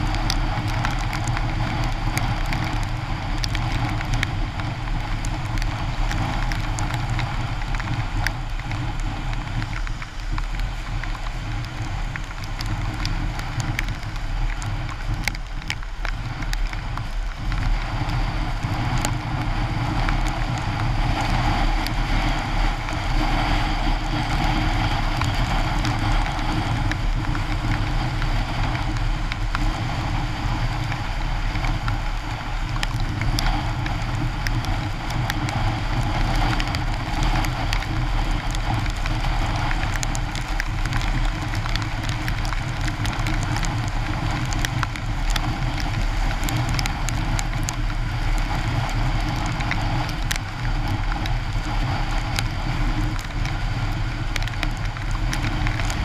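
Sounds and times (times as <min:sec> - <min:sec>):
heavy rain: 0:00.0 - 0:56.0
tyres on wet road: 0:00.0 - 0:56.0.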